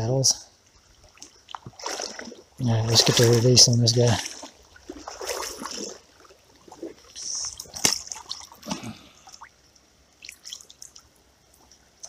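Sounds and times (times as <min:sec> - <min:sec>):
water trickling: 0:00.0 - 0:12.0
water splashing and dripping: 0:00.7 - 0:12.0.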